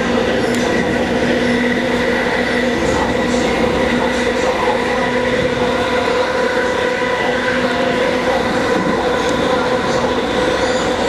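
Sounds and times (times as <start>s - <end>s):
train motors whining: 0.0s - 11.0s
wheels rumbling on rail: 0.0s - 11.0s.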